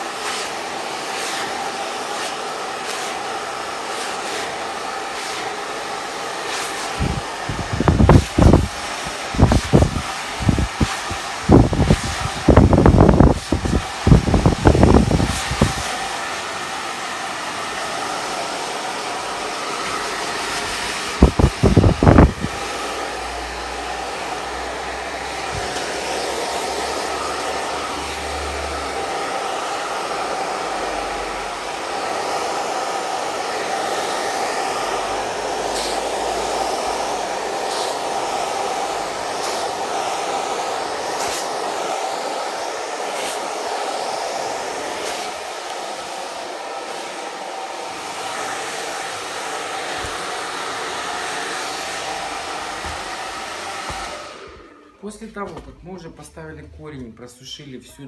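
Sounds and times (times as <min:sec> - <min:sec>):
hair dryer running: 0:00.0 - 0:56.6.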